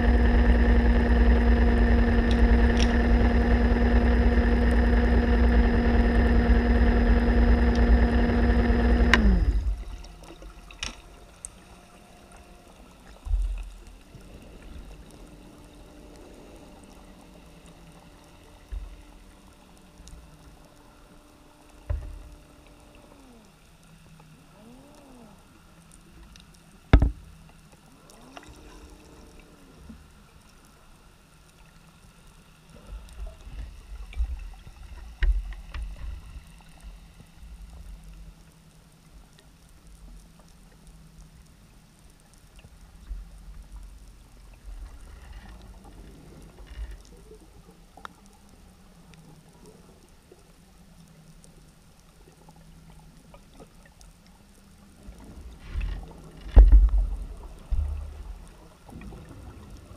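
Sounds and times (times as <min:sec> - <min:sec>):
faint steady hum: 0:00.0 - 0:59.9
muffled underwater rumbling: 0:00.0 - 0:59.9
light ticks: 0:09.1 - 0:59.8.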